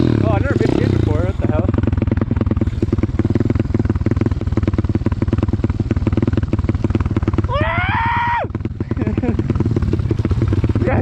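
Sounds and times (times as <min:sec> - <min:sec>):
motorbike engine idling: 0:00.0 - 0:11.0.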